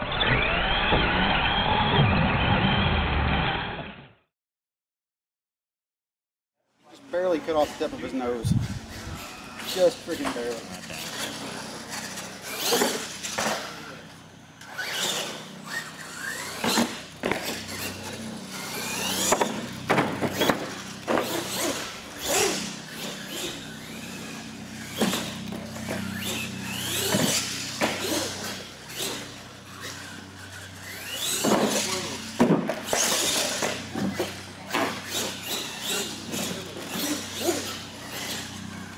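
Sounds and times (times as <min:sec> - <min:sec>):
toy truck motor whining: 0:00.0 - 0:04.2, 0:07.3 - 0:38.9.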